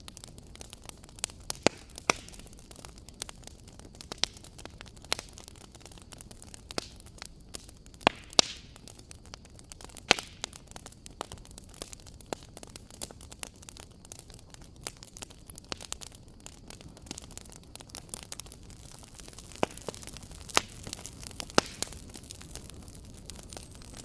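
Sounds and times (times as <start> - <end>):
soft fire hiss: 0.0 - 24.0
wood fire crackling: 0.0 - 24.0.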